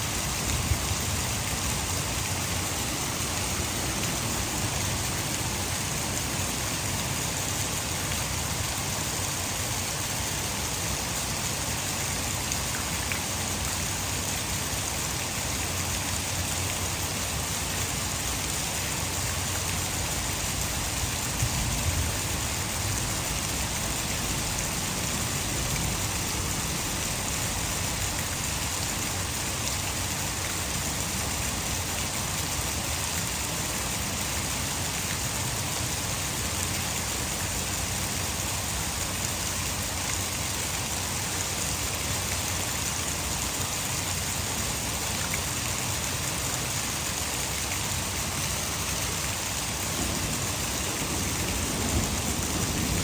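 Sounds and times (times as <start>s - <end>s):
heavy rain: 0.0s - 53.0s
water pouring over a dam: 0.0s - 53.0s.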